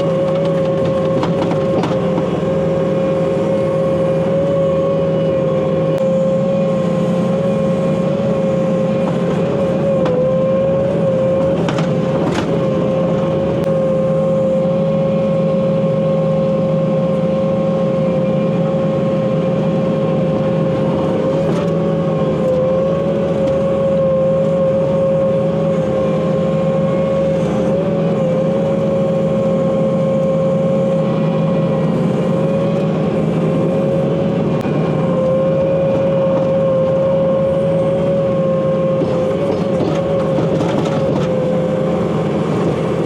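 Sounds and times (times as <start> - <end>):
engine running with whine: 0.0 - 43.0.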